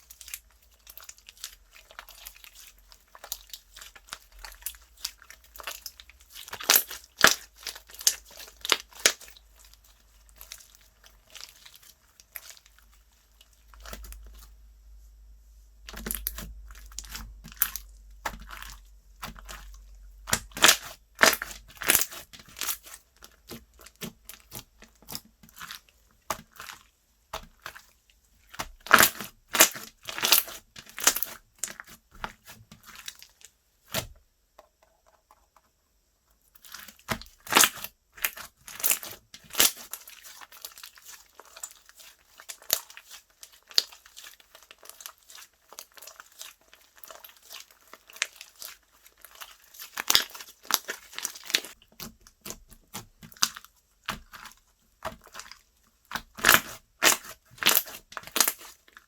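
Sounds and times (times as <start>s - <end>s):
slime popping and crackling: 0.2s - 9.6s, 15.9s - 26.8s, 28.5s - 33.3s, 36.6s - 59.0s.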